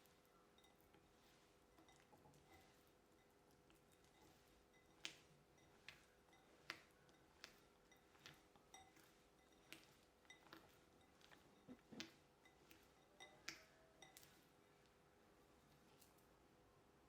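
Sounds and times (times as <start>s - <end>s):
utensils clinking against bowl: 0.0s - 14.4s.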